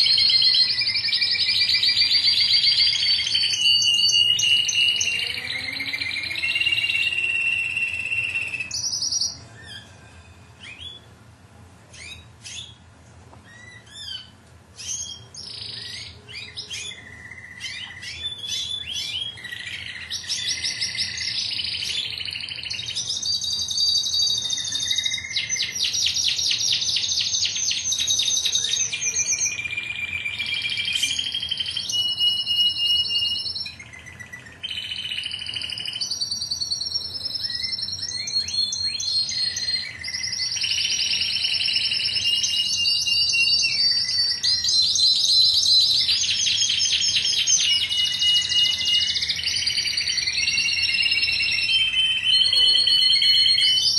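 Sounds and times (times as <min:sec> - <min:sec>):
canary singing trills: 0:00.0 - 0:11.3, 0:11.9 - 0:53.9.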